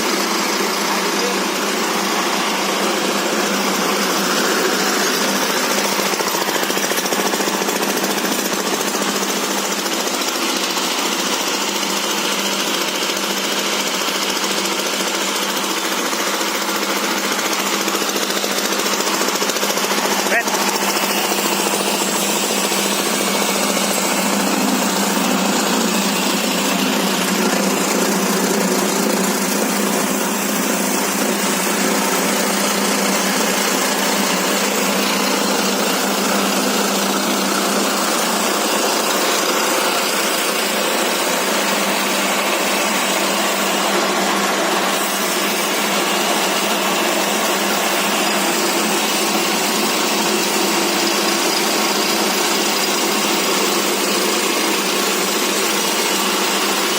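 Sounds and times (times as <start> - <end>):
pellet mill running: 0.0 - 56.9.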